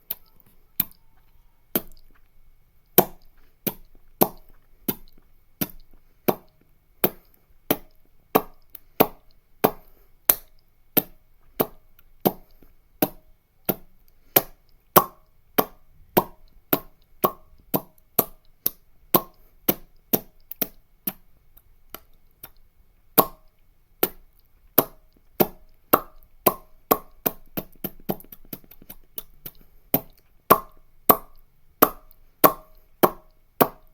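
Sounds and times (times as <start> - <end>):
mouth popping sounds: 0.0 - 33.9.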